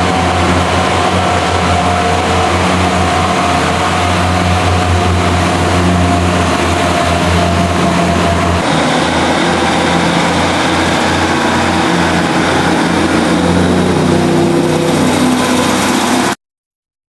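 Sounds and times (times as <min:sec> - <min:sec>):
diesel engine droning: 0:00.0 - 0:16.4.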